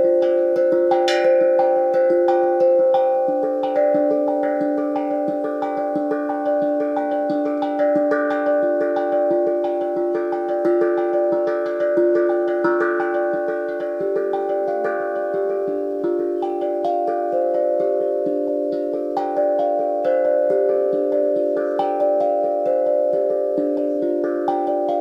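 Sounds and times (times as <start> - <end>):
steel tongue drum melody: 0.0 - 25.0.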